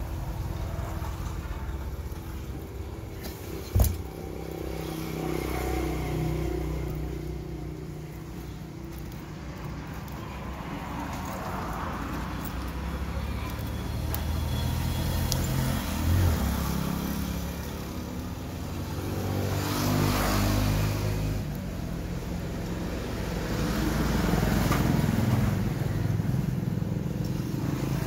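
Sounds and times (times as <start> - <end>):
vehicle engine rumble: 0.0 - 28.0.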